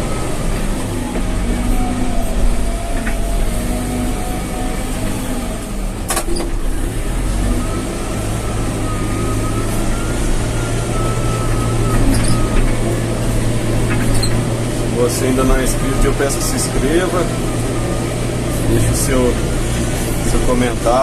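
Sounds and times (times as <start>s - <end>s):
diesel engine running: 0.0s - 21.0s
thin whine: 0.0s - 21.0s.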